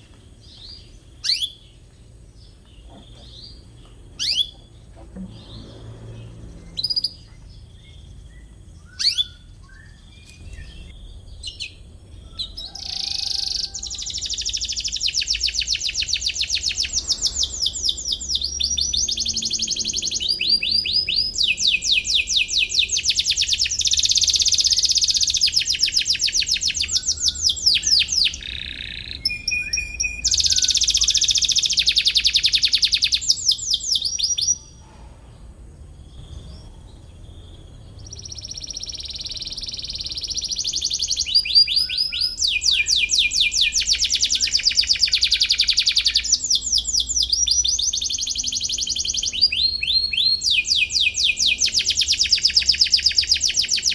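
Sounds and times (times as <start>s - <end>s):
canary singing trills: 0.0s - 34.9s, 36.0s - 53.9s.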